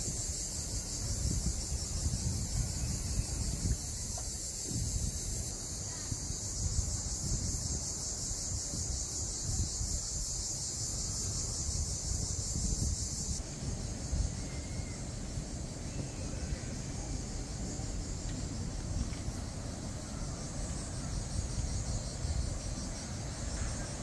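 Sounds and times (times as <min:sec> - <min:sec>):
cicadas buzzing: 0:00.0 - 0:24.0
wind rumbling on microphone: 0:00.0 - 0:24.0.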